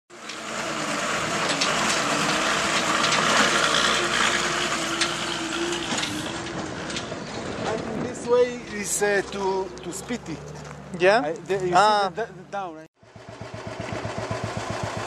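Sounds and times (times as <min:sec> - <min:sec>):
tyres grinding over gravel: 0:00.1 - 0:12.3
vehicles passing close: 0:00.1 - 0:15.0
wind: 0:00.1 - 0:15.0.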